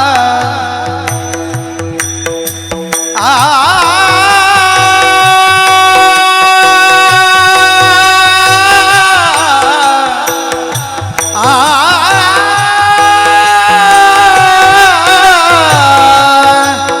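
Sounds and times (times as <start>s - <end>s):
person singing devotional song: 0.0s - 2.3s, 2.9s - 17.0s
harmonium drone: 0.0s - 17.0s.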